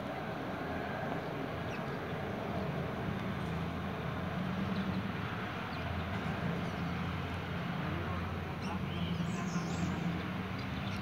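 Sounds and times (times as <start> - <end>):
distant helicopter drone: 0.0 - 11.0.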